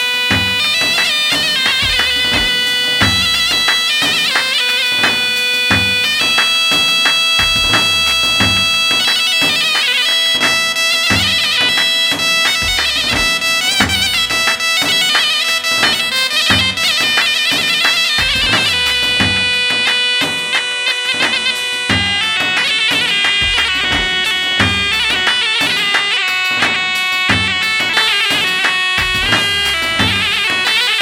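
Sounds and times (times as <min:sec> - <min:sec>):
held drone: 0:00.0 - 0:31.0
reedy wind instrument melody: 0:00.0 - 0:31.0
steady drum beat: 0:00.0 - 0:31.0.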